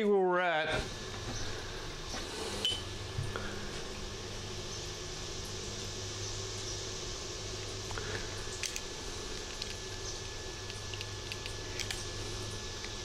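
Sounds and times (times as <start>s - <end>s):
faint high whine: 0.0s - 13.0s
steady hum and hiss: 0.0s - 13.0s.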